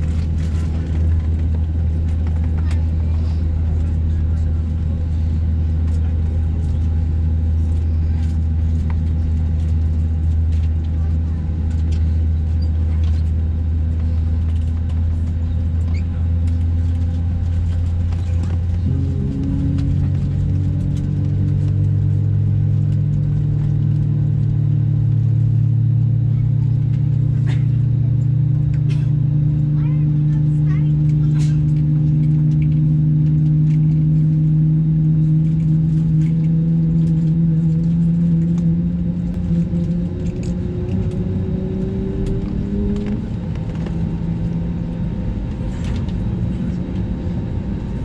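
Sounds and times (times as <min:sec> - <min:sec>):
held low tones: 0:00.0 - 0:48.0
low cabin drone: 0:00.0 - 0:48.0.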